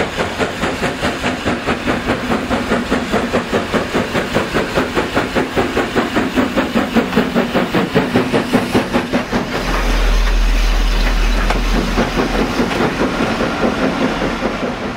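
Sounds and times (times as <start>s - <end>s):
steam locomotive exhaust beats: 0.0s - 14.9s
train carriages rolling past: 0.0s - 14.9s.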